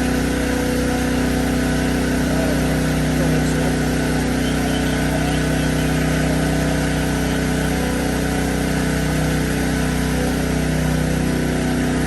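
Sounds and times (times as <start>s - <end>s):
gas-engine fan humming: 0.0s - 12.0s.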